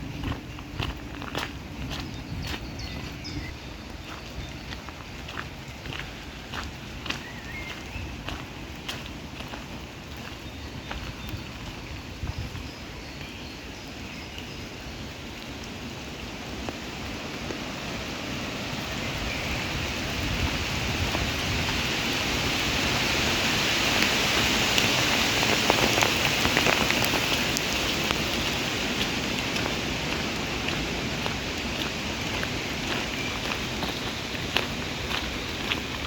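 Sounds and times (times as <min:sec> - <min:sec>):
rain pattering: 0:00.0 - 0:36.0.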